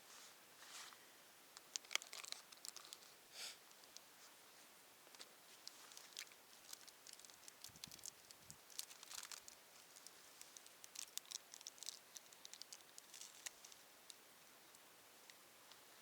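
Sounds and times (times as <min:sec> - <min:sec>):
small wood fire crackling: 0:00.6 - 0:16.0.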